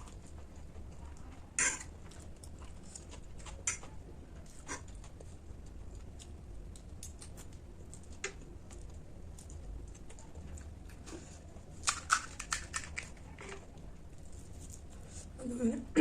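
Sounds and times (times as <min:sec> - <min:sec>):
crisp eating crunches: 0:00.0 - 0:15.3.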